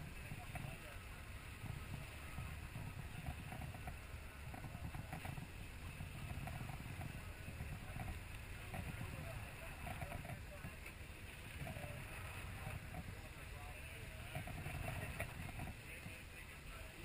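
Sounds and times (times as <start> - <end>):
boat engine rumbling: 0.0 - 17.0
sea noise: 0.0 - 17.0
wind: 0.0 - 17.0.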